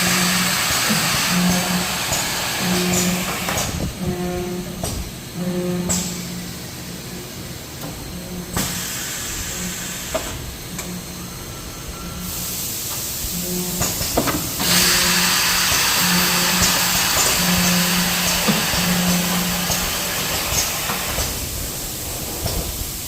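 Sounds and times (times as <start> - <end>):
packaging machine hum: 0.0 - 12.4, 13.3 - 22.9
machine hiss: 0.0 - 23.0.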